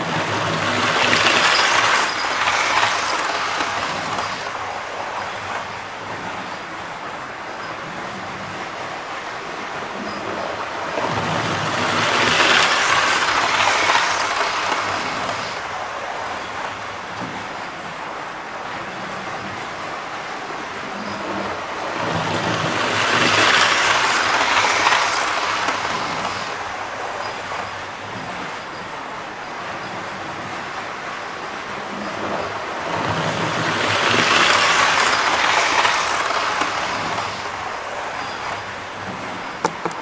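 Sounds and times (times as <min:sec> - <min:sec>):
model train rumbling on track: 0:00.0 - 0:40.0.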